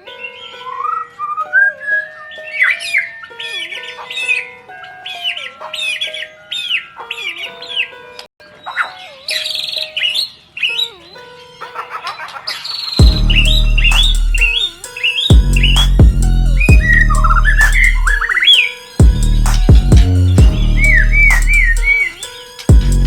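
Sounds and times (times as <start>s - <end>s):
background music with held notes: 0.0s - 23.0s
songbird singing: 0.0s - 23.0s.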